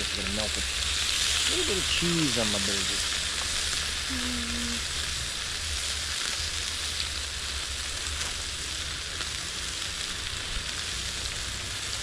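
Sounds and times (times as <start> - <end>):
burger patties sizzling on grill: 0.0 - 12.0.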